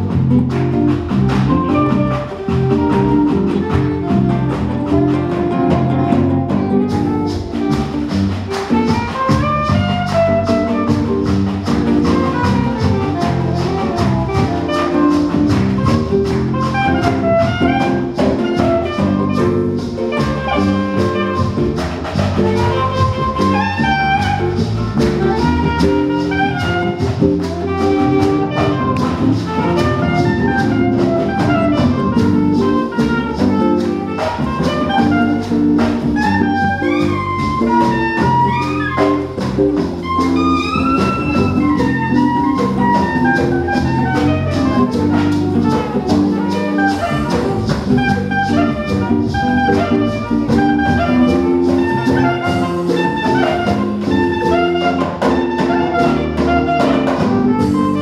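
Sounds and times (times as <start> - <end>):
acoustic guitar chords: 0.0 - 58.0
electric bass: 0.0 - 58.0
percussion: 0.0 - 58.0
soprano saxophone melody: 0.0 - 58.0.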